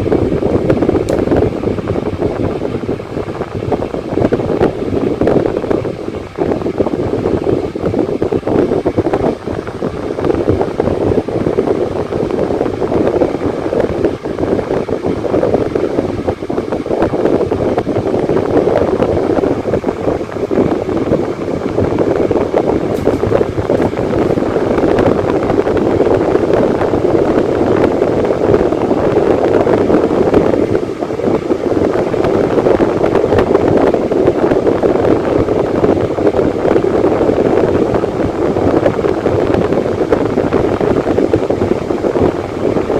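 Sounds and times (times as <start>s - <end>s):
electric fan running: 0.0s - 42.9s.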